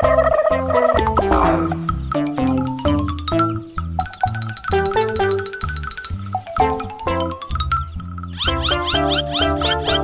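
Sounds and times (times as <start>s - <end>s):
upbeat children's music: 0.0s - 10.0s.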